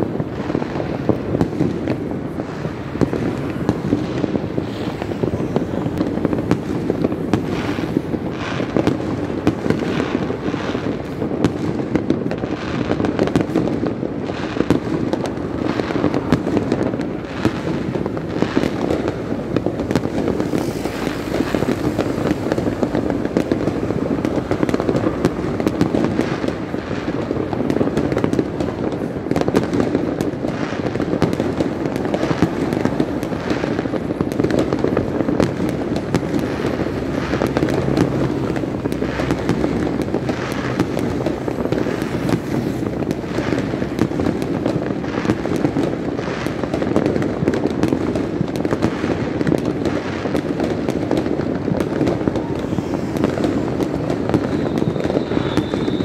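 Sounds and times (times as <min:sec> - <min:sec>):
fireworks and firecrackers crackling: 0:00.0 - 0:56.0.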